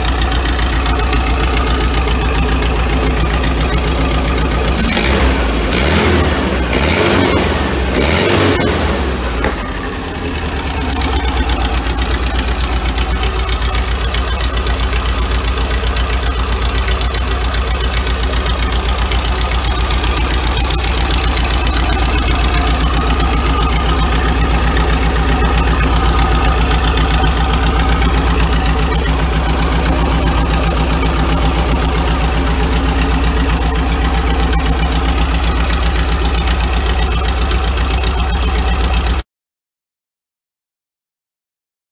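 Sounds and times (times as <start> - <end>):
car engine idling: 0.0 - 39.2.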